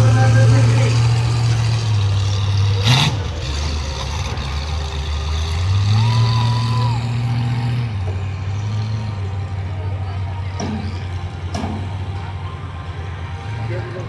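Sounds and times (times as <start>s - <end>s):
toy truck engine running hard: 0.0s - 14.0s.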